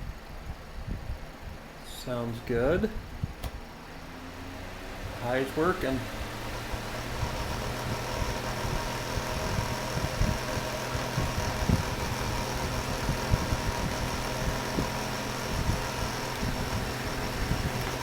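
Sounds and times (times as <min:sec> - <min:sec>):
window fan motor hum and whine: 0:00.0 - 0:18.0.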